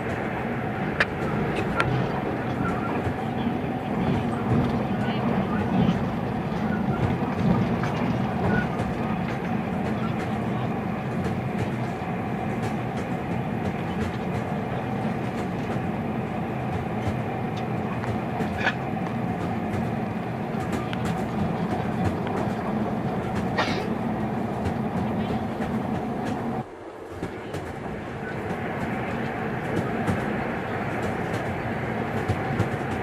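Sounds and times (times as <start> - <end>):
train rumbling inside carriage: 0.0 - 33.0.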